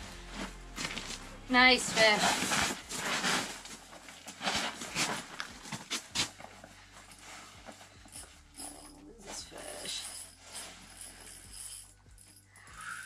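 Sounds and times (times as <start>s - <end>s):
rustles and crunches on snow: 0.1s - 11.5s.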